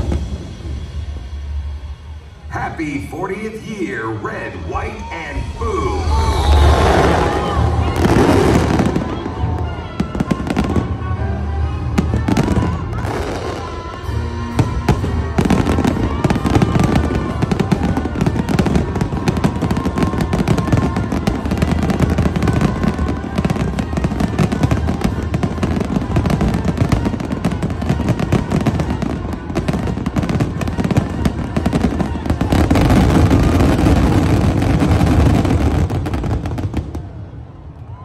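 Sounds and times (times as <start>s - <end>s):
fireworks bursting and crackling: 0.0s - 1.8s, 2.6s - 38.0s.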